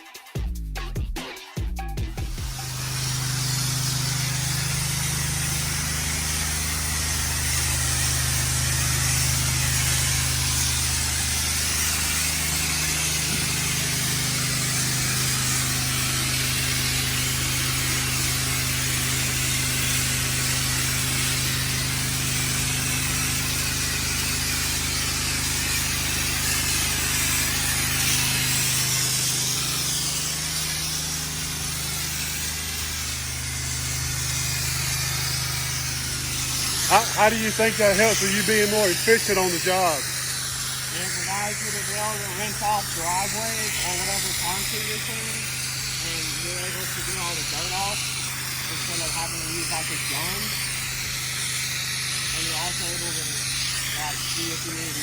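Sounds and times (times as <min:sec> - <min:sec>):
pressure washer humming: 0:02.2 - 0:55.0
water hissing from valve: 0:02.4 - 0:55.0.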